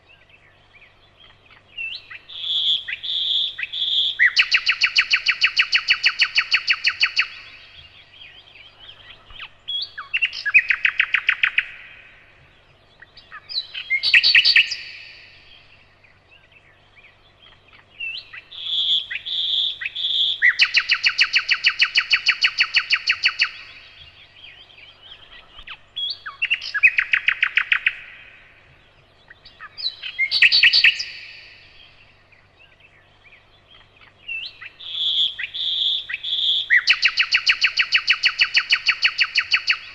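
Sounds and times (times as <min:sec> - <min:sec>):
faint low hum: 0:00.0 - 0:39.9
nightingale singing: 0:00.0 - 0:39.9.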